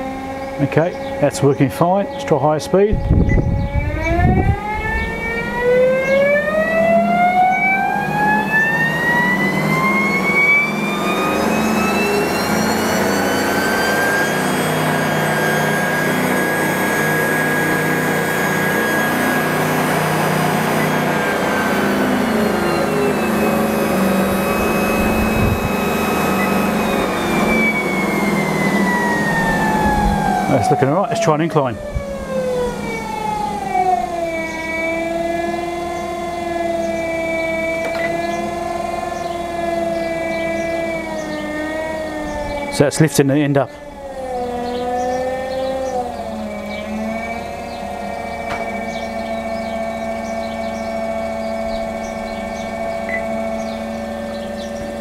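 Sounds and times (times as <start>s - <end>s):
treadmill motor whine: 0.0s - 55.0s.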